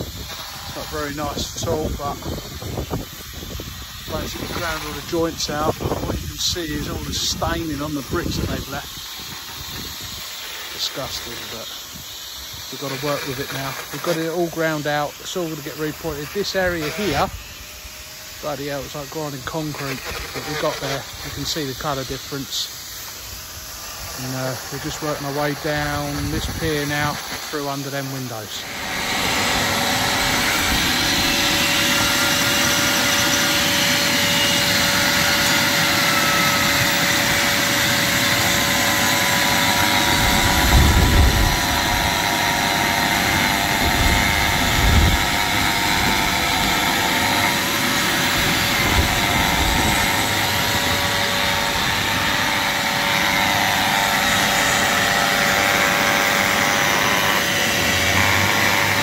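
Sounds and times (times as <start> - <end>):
angle grinder grinding mortar: 0.0 - 59.0.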